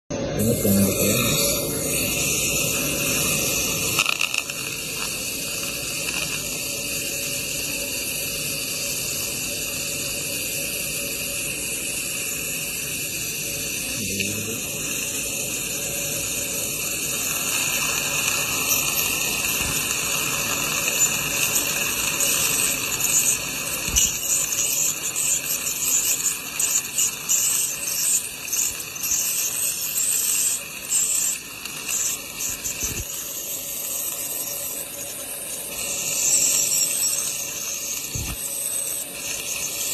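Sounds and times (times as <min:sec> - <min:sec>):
dental scaler and suction hiss: 0:00.2 - 0:39.9.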